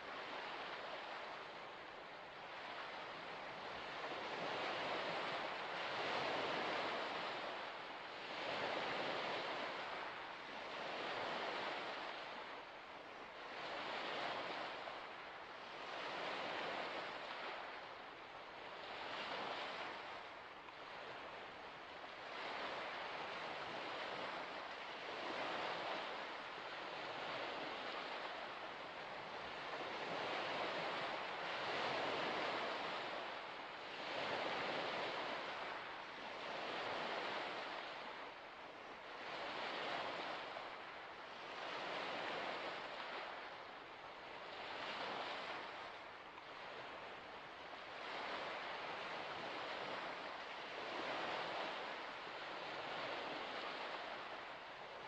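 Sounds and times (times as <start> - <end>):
small waves washing onto shore: 0.0 - 55.0.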